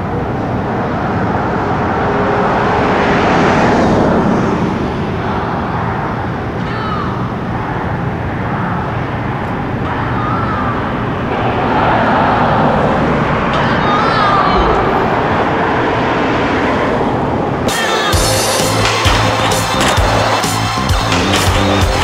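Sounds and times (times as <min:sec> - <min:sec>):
passing cars: 0:00.0 - 0:22.0.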